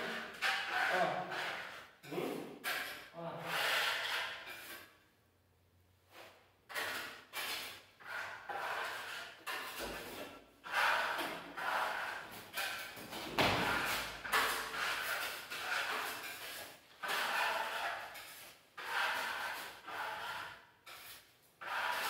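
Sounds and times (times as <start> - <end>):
trowels scraping over wall: 0.0 - 5.0, 6.1 - 22.0.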